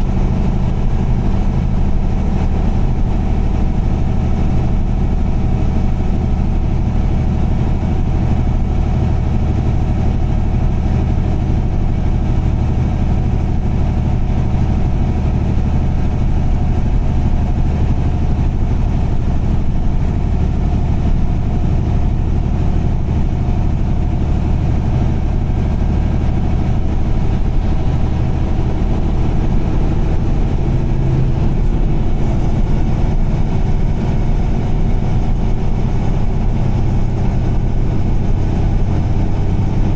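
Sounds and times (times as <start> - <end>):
car engine and tyres droning: 0.0 - 39.9.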